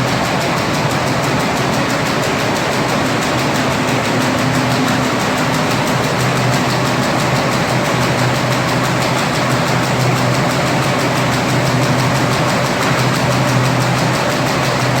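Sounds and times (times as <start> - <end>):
paper bag machine humming rhythmically: 0.0 - 15.0.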